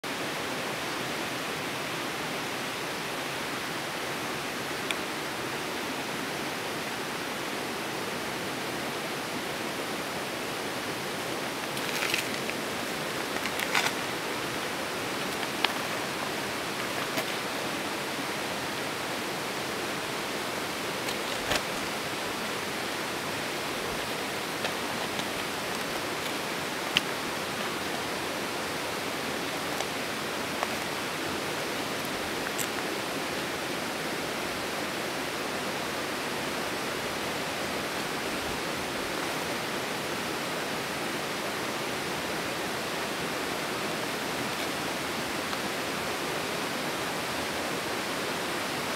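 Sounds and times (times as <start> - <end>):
steady outdoor hiss: 0.0 - 48.9.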